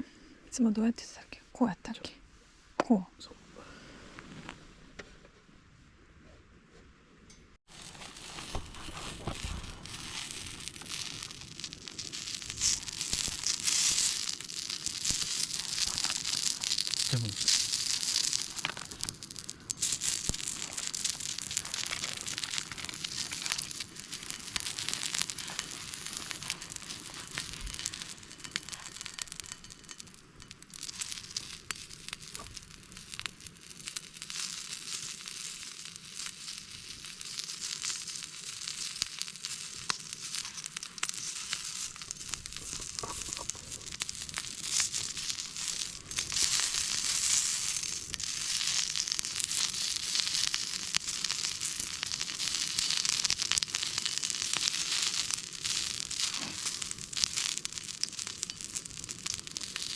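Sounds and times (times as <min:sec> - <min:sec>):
food sizzling in a pan: 0:07.6 - 0:59.9.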